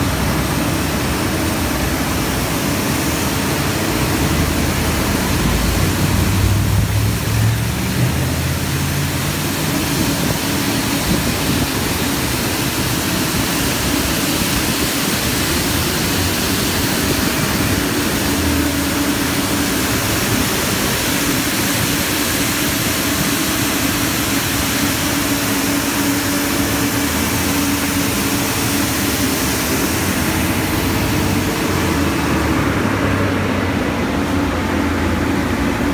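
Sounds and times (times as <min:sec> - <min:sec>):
street sweeper engine drone: 0:00.0 - 0:35.9.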